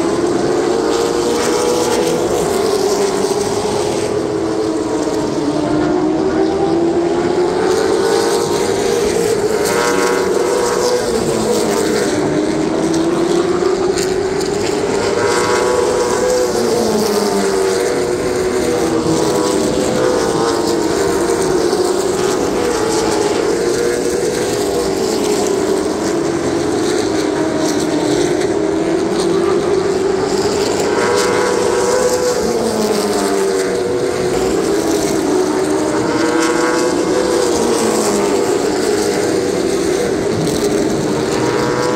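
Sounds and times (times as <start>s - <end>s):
race car engines droning: 0.0s - 41.9s.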